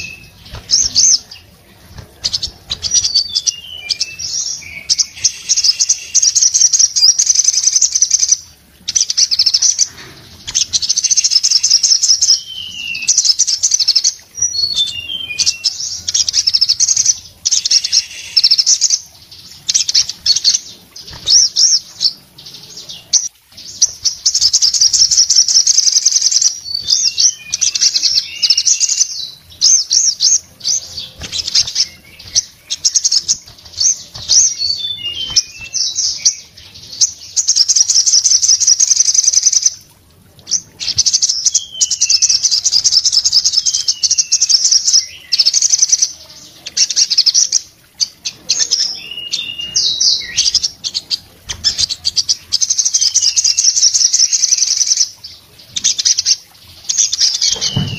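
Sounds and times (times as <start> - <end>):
bird singing rapid chatter: 0.0 - 22.2, 22.8 - 39.8, 40.5 - 57.9.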